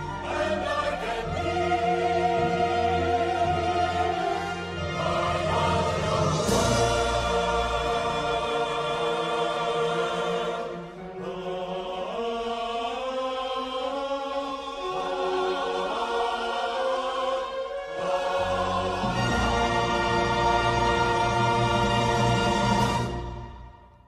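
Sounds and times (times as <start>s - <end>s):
choir singing held notes: 0.0s - 23.6s.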